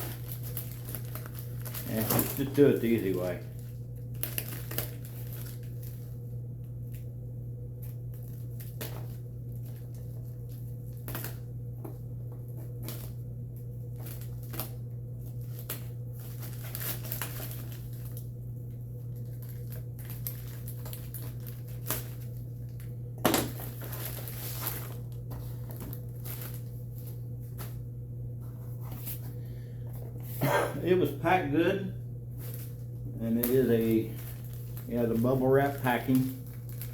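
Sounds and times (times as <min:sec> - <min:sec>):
packaging crinkling and rustling: 0:00.0 - 0:07.1, 0:07.8 - 0:27.8, 0:32.3 - 0:36.9
steady low hum: 0:00.0 - 0:36.9.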